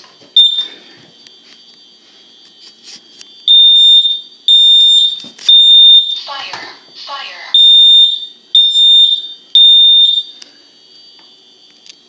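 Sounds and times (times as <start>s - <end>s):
smoke alarm beeping: 0.0s - 12.0s.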